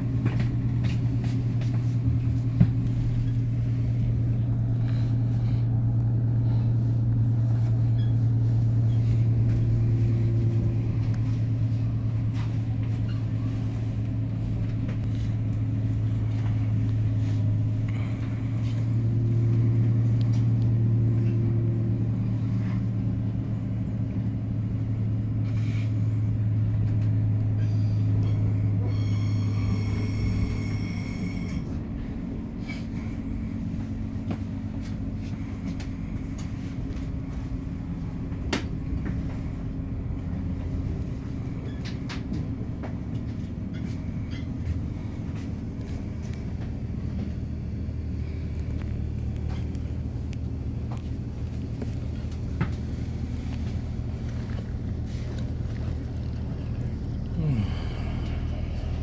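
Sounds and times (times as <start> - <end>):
train rumbling over tracks: 0.0 - 59.0.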